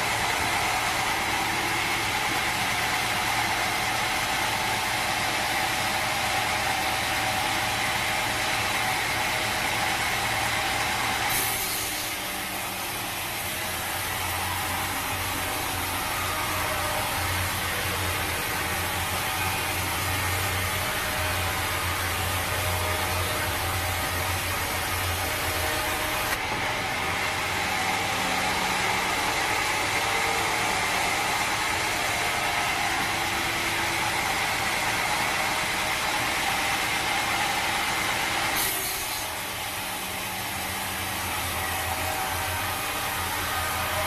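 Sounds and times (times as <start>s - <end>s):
sawmill machinery humming and whining: 0.0s - 44.0s.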